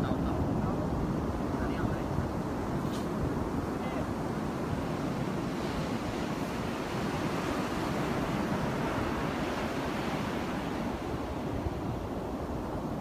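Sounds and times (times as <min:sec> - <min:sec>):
ocean surf: 0:00.0 - 0:13.0
strong wind buffeting microphone: 0:00.0 - 0:13.0.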